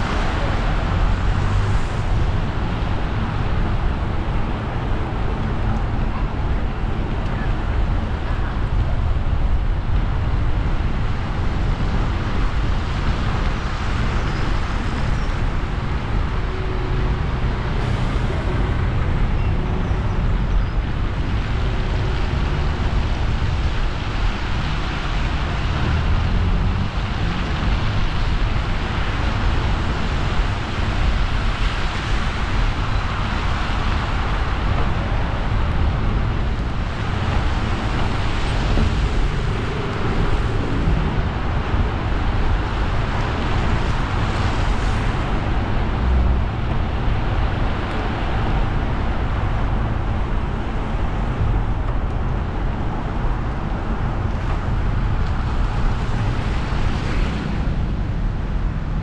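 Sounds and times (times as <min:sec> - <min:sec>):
tyres hissing on wet road: 0:00.0 - 0:05.4, 0:11.2 - 0:58.1
road and engine rumble: 0:00.0 - 0:59.0.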